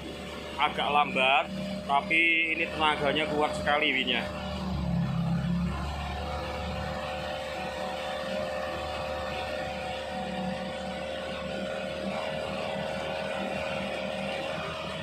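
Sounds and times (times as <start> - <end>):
truck engine running under load: 0.0 - 15.0.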